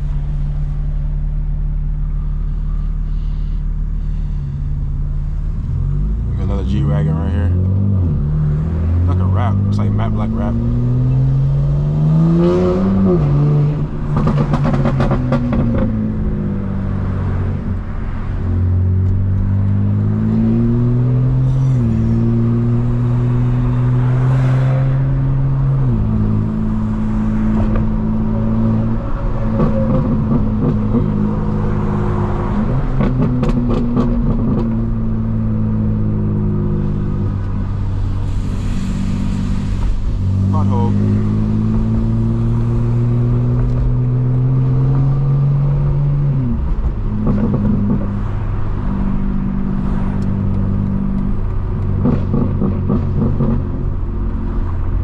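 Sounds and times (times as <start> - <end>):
car engine accelerating and shifting: 0.0 - 55.0.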